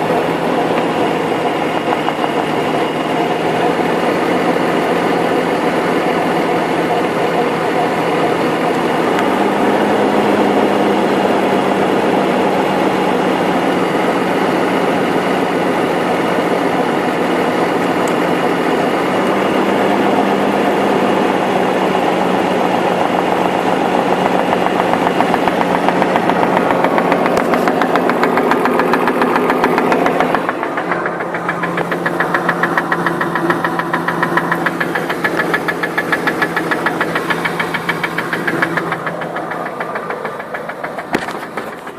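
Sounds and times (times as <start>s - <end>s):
engine hum: 0.0s - 41.9s
engine knocking: 0.0s - 41.9s.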